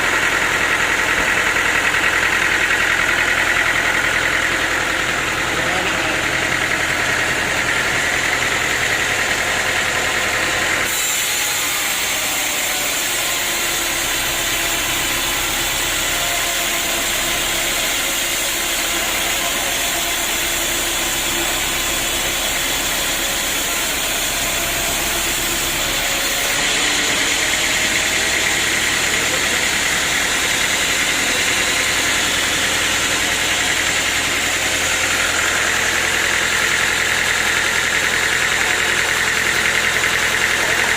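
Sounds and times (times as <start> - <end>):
sawmill machinery hum and whine: 0.0 - 40.9.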